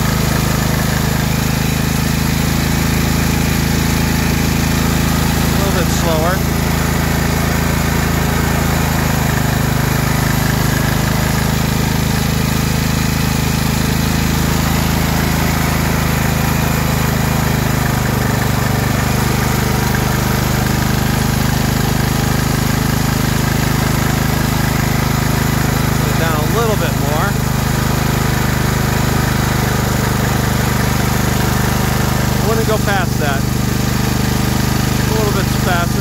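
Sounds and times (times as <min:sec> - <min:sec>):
generator engine running: 0:00.0 - 0:36.0.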